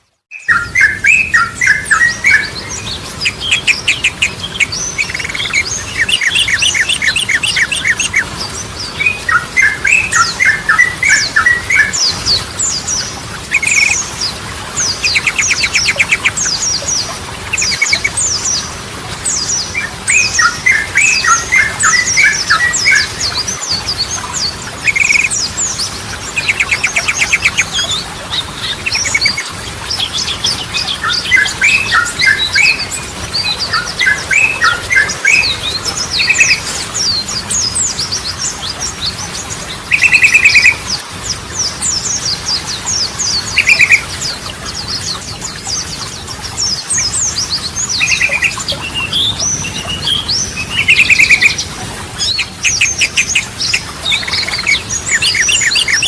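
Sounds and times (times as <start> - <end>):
bulbul singing: 0.3 - 56.0.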